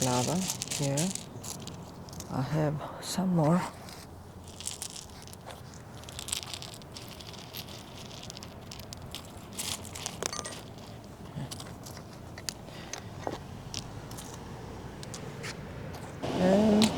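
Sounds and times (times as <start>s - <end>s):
loose stones crunching: 0.0s - 2.8s, 3.4s - 16.9s.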